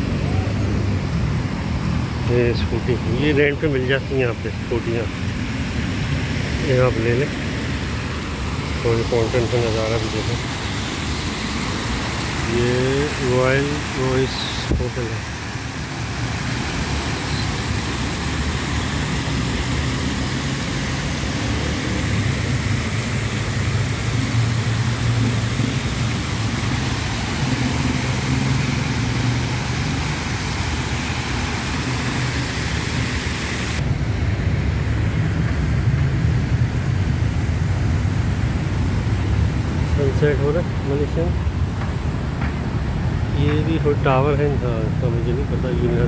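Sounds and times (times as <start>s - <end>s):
low hum of city traffic: 0.0s - 46.0s
water cascading down a fountain: 0.0s - 46.0s.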